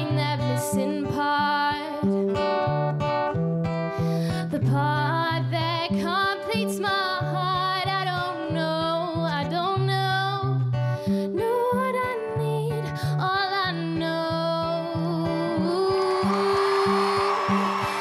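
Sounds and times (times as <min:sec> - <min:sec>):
woman singing: 0:00.0 - 0:02.4, 0:04.3 - 0:18.0
acoustic guitar: 0:00.0 - 0:18.0.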